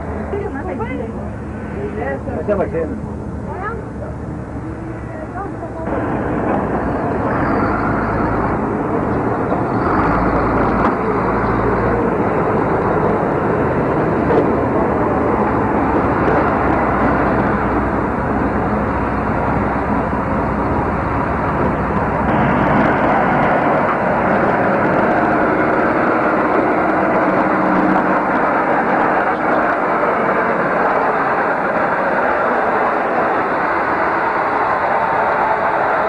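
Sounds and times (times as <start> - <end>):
vehicle engines running loudly: 0.0 - 36.0.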